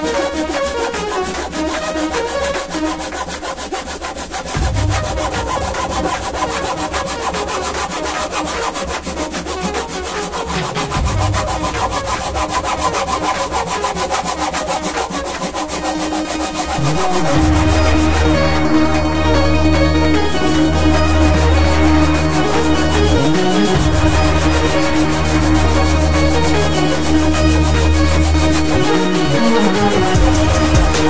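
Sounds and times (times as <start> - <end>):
hand saw rasping through wood: 0.0 - 19.0, 20.2 - 31.0.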